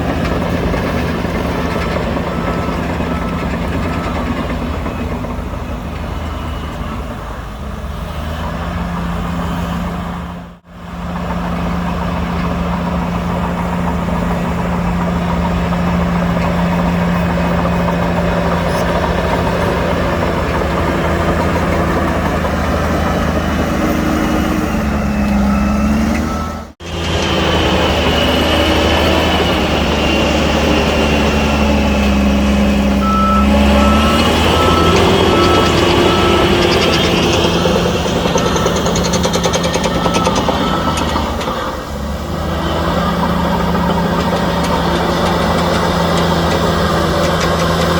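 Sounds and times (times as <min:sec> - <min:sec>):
heavy machinery diesel engines: 0:00.0 - 0:47.9
reversing beeper: 0:00.4 - 0:07.3, 0:14.3 - 0:47.2.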